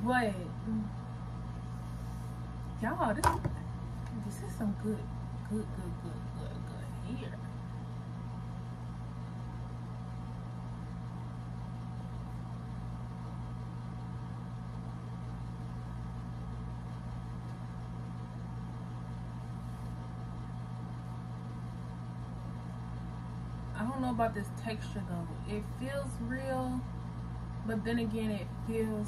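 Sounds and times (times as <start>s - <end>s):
ceiling fan motor humming: 0.0s - 29.0s.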